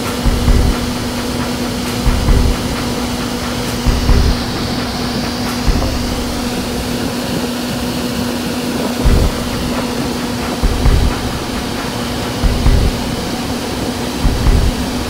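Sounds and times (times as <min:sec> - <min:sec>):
low buffets of wind: 0:00.0 - 0:15.0
steady hum: 0:00.0 - 0:15.0.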